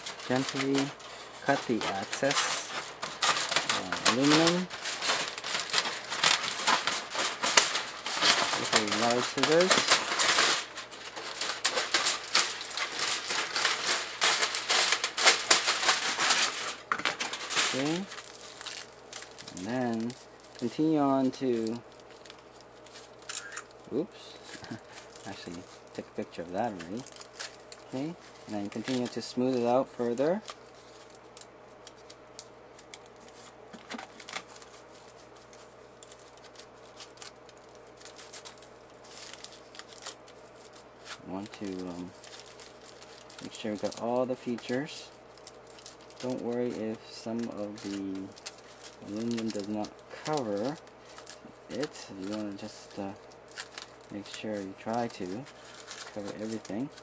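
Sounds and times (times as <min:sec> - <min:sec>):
scissors cutting aluminum foil: 0:00.0 - 0:32.2, 0:32.8 - 0:57.0.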